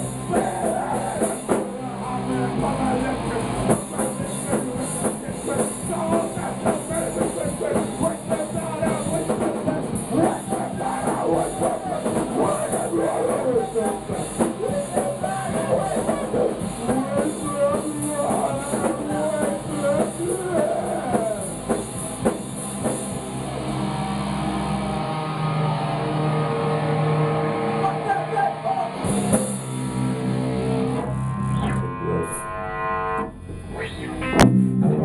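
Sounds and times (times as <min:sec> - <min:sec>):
drums: 0:00.0 - 0:31.7
electric guitar: 0:00.0 - 0:35.0.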